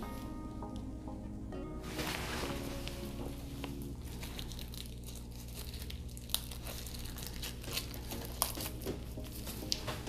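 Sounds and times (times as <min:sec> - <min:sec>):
paper crinkling and tearing: 0:01.9 - 0:10.0.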